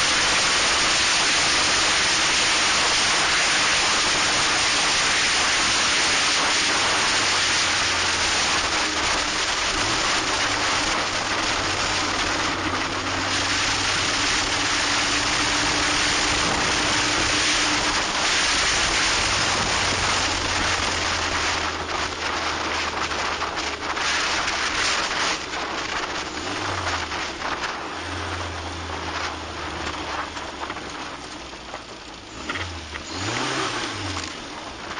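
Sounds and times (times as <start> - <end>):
car engine running: 0.0 - 34.9
wind and road rush: 0.0 - 34.9.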